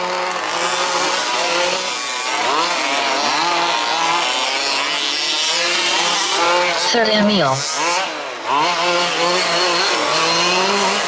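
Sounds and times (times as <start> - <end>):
small two-stroke engines buzzing: 0.0 - 11.0.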